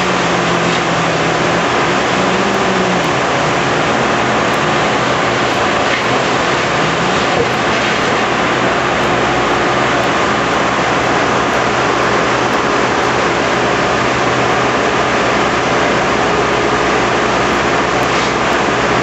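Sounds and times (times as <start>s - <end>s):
heavy machinery running: 0.0s - 19.0s
low hum: 0.0s - 19.0s.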